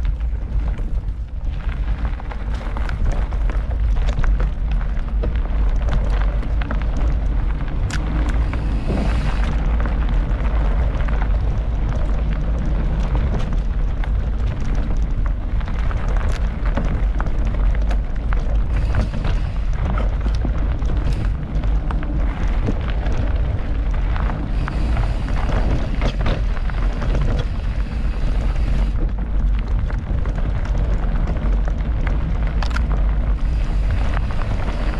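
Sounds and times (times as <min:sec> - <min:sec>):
bike knocking and rattling: 0:00.0 - 0:34.9
wind and tyre rumble: 0:00.0 - 0:34.9.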